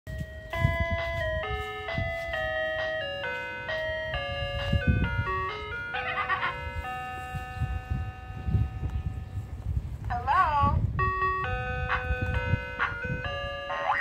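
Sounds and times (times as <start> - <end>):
ice cream truck chime tune: 0.1 - 9.6, 10.8 - 14.0.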